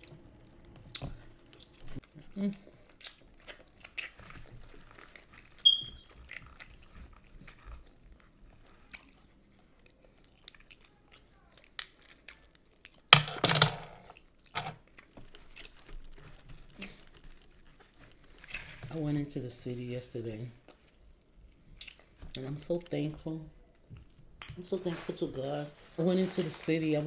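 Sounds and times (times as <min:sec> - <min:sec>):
chewing crispy food: 0:00.0 - 0:13.1, 0:14.2 - 0:27.0.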